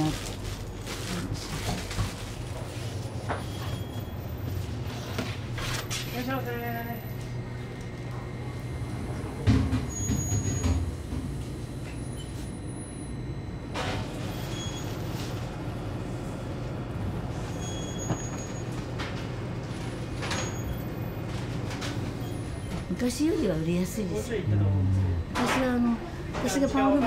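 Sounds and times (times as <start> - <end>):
machinery hum: 0.0 - 27.0.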